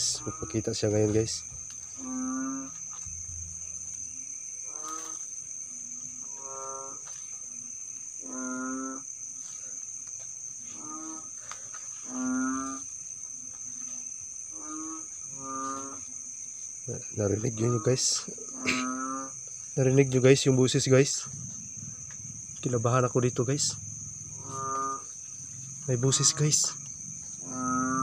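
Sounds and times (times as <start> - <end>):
crickets droning: 0.0 - 28.0.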